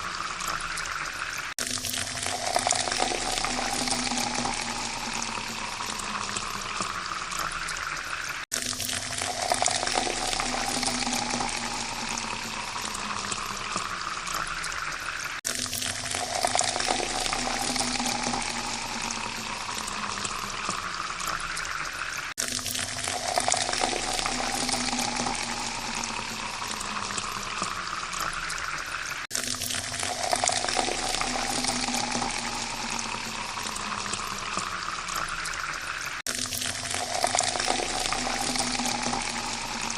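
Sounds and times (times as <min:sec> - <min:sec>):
water pouring into a glass: 0:00.0 - 0:39.9.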